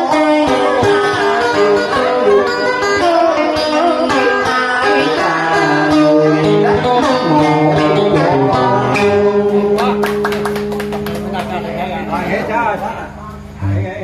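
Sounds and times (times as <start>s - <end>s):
plucked strings with sliding notes: 0.0s - 14.0s.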